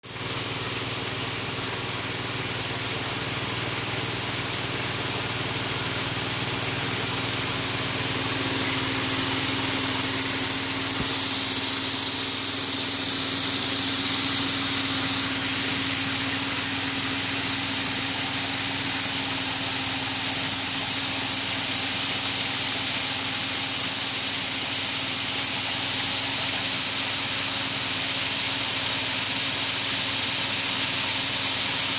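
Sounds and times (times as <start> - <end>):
coffee huller machine running: 0.0 - 31.9.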